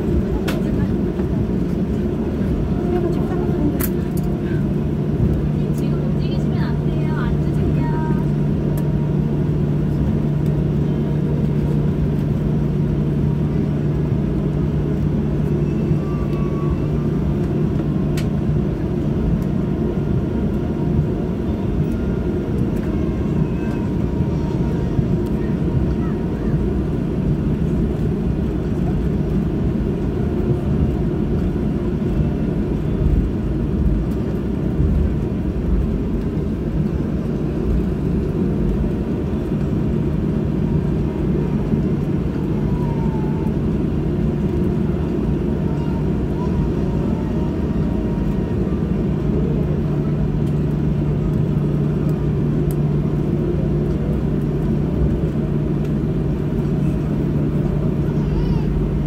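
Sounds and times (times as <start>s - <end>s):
constant hum: 0.0s - 59.0s
jet engines low rumble: 0.0s - 59.0s.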